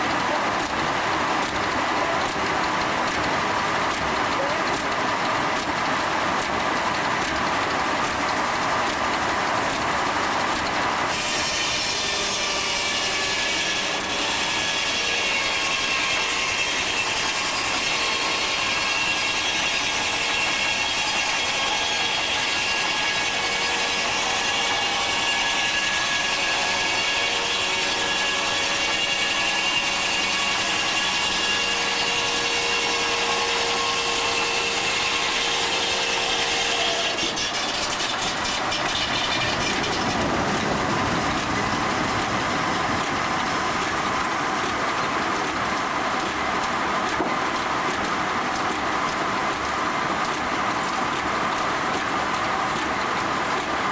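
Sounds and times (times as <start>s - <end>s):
sawmill saw cutting log: 0.0s - 53.9s.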